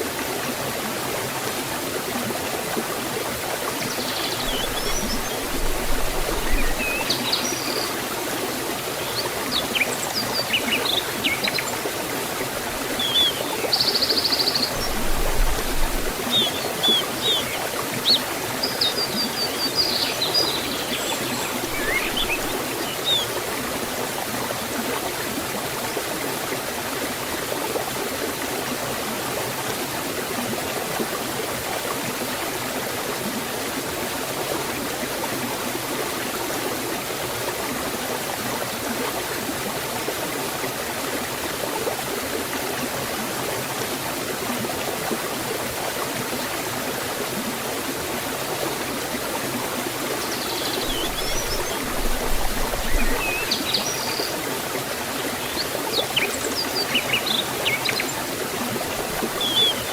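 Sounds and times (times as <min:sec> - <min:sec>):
waterfall and stream flowing: 0:00.0 - 0:59.9.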